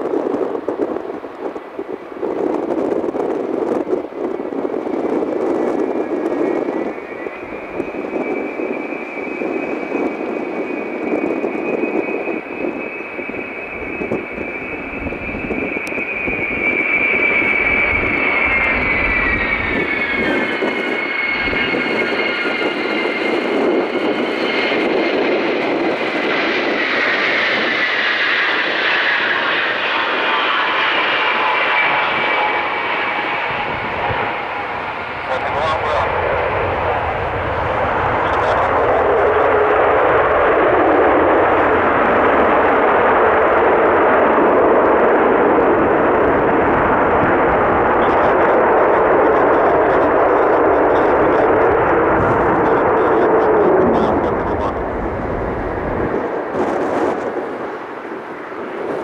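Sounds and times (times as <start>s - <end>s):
jet aircraft roar and whine: 0.0s - 59.0s.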